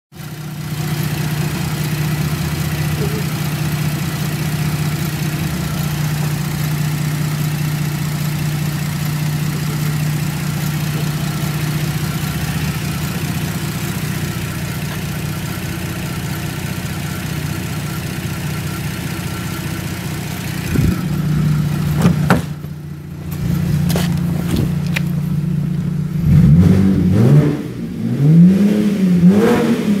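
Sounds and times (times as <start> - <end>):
car engine idling and revving: 0.1 - 30.0.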